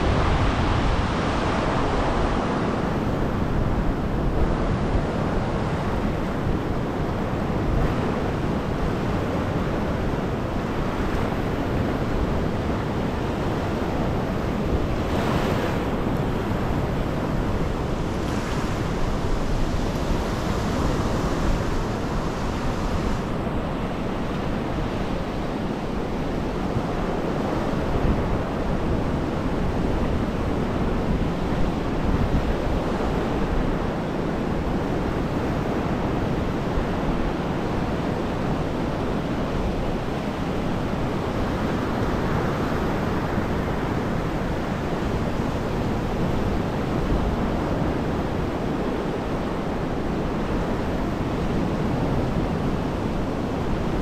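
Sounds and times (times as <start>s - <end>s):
sea surf breaking on beach: 0.0s - 54.0s
wind rumbling on microphone: 0.0s - 54.0s.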